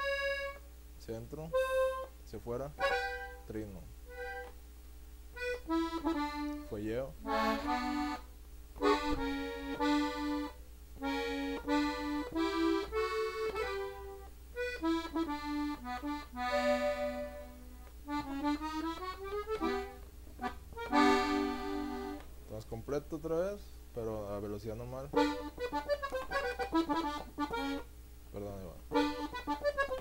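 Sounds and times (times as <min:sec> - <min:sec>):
button accordion melody: 0:00.0 - 0:00.7, 0:01.4 - 0:02.1, 0:02.8 - 0:04.6, 0:05.4 - 0:22.3, 0:25.1 - 0:30.0.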